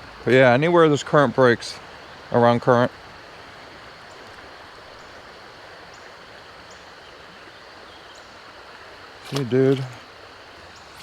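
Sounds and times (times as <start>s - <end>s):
flowing creek water: 0.0s - 11.0s.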